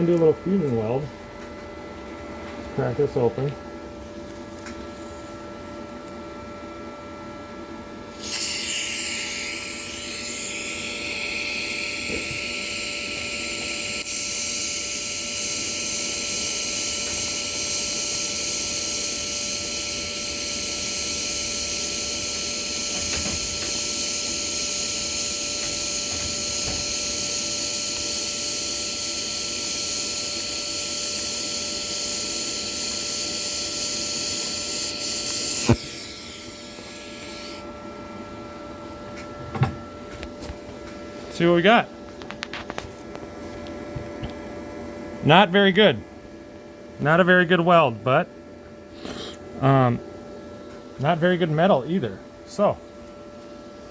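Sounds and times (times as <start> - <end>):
welding arc hiss-buzz: 0.0 - 47.6
thin steady whine: 0.0 - 53.9.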